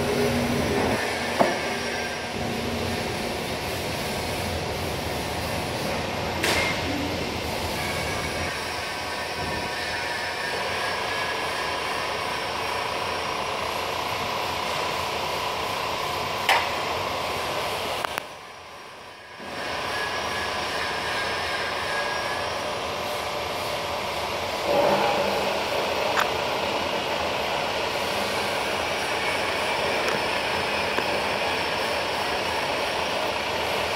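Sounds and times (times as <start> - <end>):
band saw humming and whining: 0.0 - 33.9.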